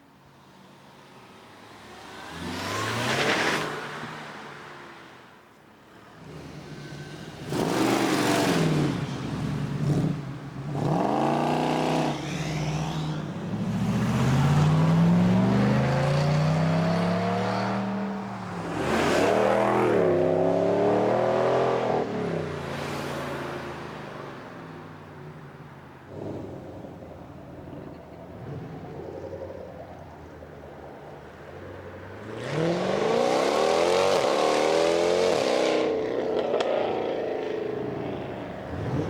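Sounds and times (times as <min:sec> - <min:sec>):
car engines revving: 0:00.5 - 0:39.0.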